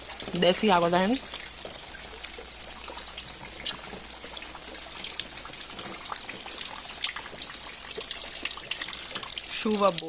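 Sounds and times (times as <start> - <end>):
water leaking and splashing: 0.0 - 10.0.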